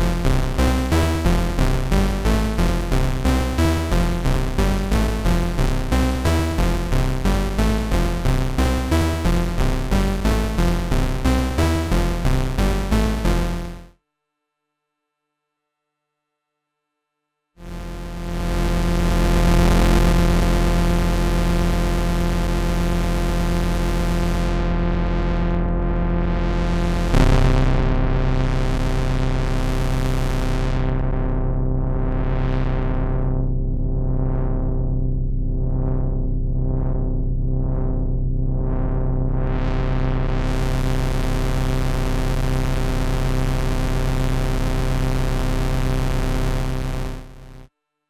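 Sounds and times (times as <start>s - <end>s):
buzzy synthesizer note with filter sweeps: 0.0s - 13.9s, 17.6s - 47.7s.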